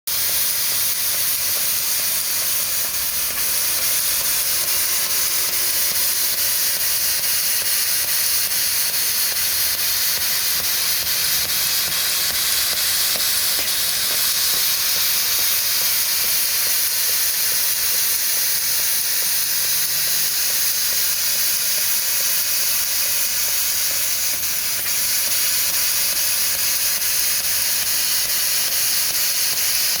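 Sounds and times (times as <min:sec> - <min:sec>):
laser cutter gas hiss: 0:00.1 - 0:30.0.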